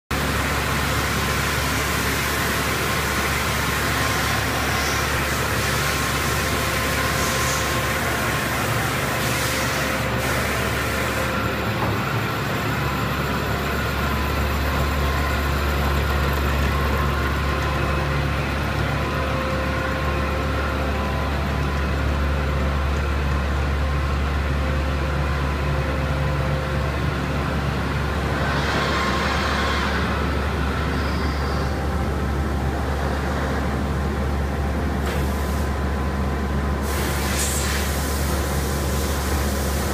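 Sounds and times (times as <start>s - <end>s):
machine shop machinery drone: 0.1s - 39.9s.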